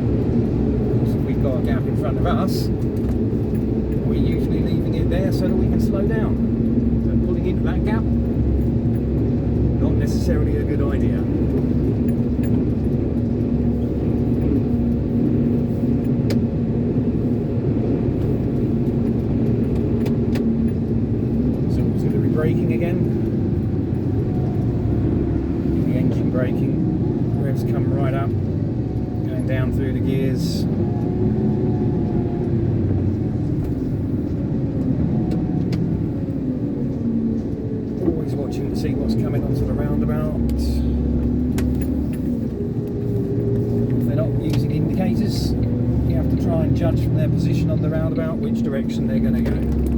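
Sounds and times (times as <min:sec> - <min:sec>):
diesel engine running: 0:00.0 - 0:49.9
road rumble: 0:00.0 - 0:49.9.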